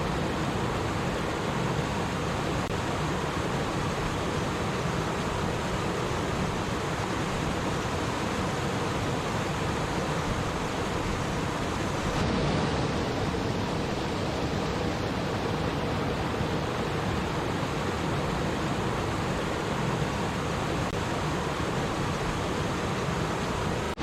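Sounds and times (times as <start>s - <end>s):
stream water babbling: 0.0s - 24.0s.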